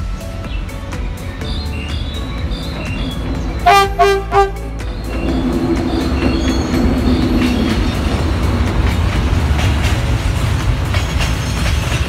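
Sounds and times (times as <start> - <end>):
model train rumbling: 0.0 - 12.0
wheels clicking over rail joints: 0.0 - 12.0.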